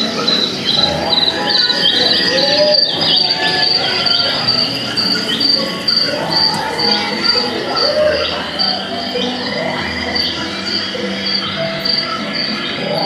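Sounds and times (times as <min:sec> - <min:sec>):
crickets chirping over loudspeakers: 0:00.0 - 0:13.0
low background tones: 0:00.0 - 0:13.0.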